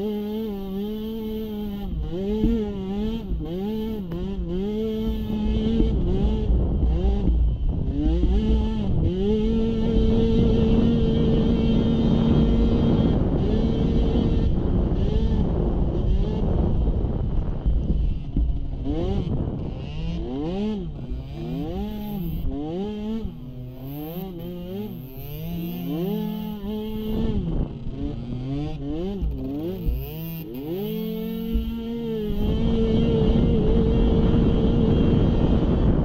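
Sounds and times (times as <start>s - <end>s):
small atv engine revving: 0.0s - 36.0s.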